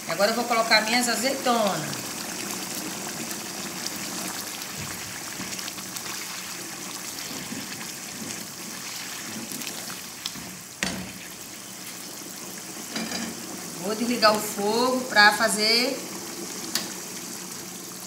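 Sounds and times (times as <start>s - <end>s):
sauce bubbling in a pan: 0.0s - 18.0s.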